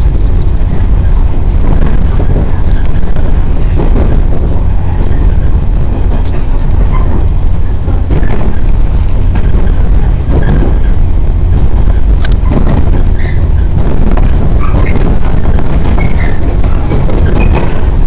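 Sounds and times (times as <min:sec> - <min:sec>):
track knocks: 0:00.0 - 0:18.0
train wheels rumbling on rail: 0:00.0 - 0:18.0.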